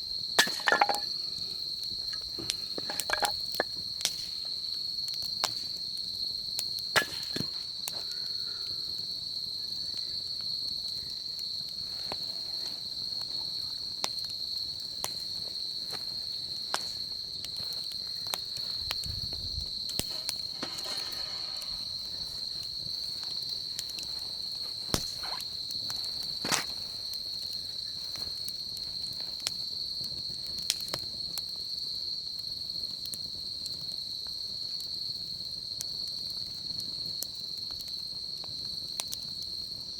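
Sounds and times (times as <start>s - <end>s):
crickets chirring: 0.0s - 39.9s
wood fire crackling: 0.0s - 39.9s.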